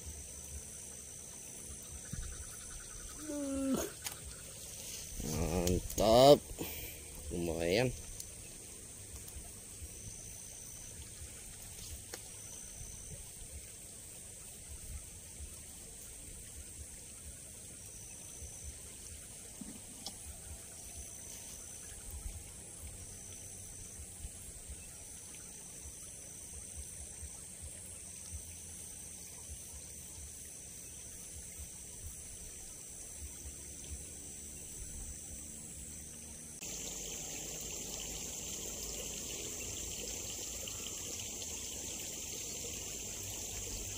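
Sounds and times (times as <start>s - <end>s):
high-pitched insect chorus: 0.0s - 43.9s
water trickling in a ditch: 0.0s - 43.9s.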